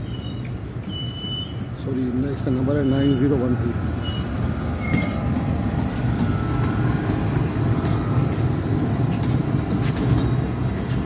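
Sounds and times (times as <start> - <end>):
locomotive engine drone: 0.0 - 11.0.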